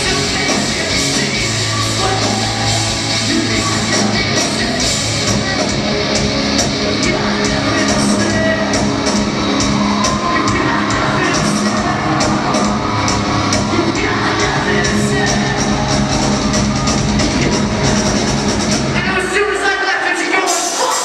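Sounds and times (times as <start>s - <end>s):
shouted and sung vocals: 0.0s - 5.9s, 6.8s - 21.0s
electric guitars: 0.0s - 19.4s
bass guitar: 0.0s - 19.5s
drums: 0.0s - 21.0s.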